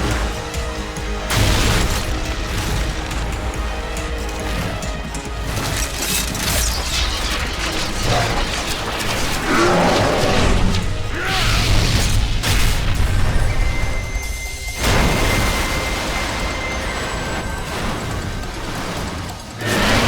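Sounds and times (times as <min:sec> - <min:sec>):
action music: 0:00.0 - 0:20.0
heavy crashes and booms: 0:00.0 - 0:20.0.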